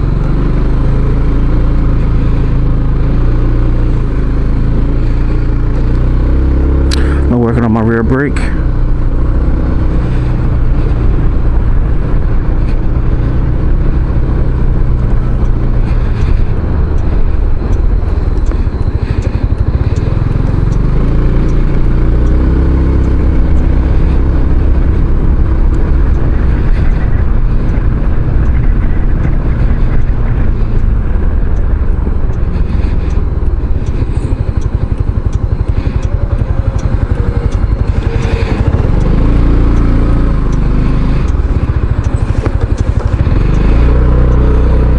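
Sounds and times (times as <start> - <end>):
road noise: 0.0 - 44.9
scooter engine running: 0.0 - 44.9.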